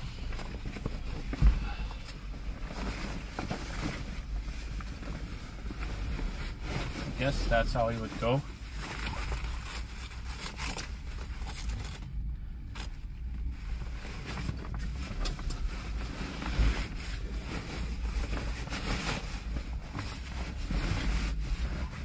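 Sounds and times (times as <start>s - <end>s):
fabric seat cover rustling: 0.0s - 12.1s, 12.8s - 22.0s
steady low rumble: 0.0s - 22.0s.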